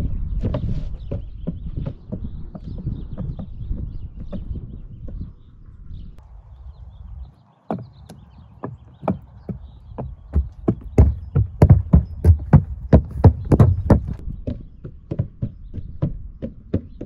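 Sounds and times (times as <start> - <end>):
hooves on wooden planks: 0.0 - 5.6, 6.8 - 17.0.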